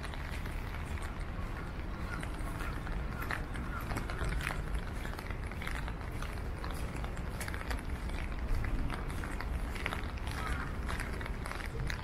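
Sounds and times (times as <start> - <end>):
footsteps walking: 0.0 - 12.0
low city rumble: 0.0 - 12.0.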